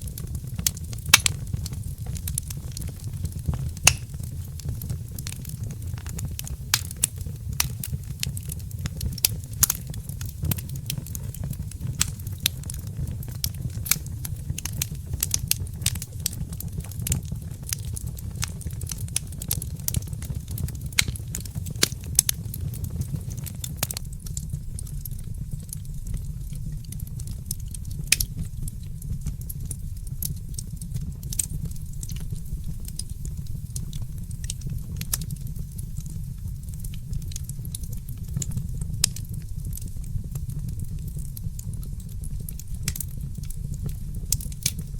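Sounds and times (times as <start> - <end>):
low rumble of fire: 0.0 - 44.9
wood fire crackling and popping: 0.0 - 44.9.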